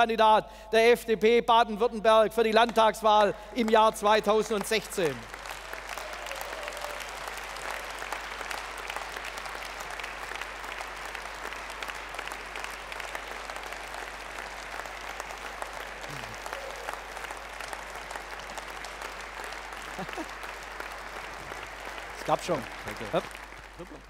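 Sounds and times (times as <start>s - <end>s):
large audience applauding: 3.6s - 24.0s.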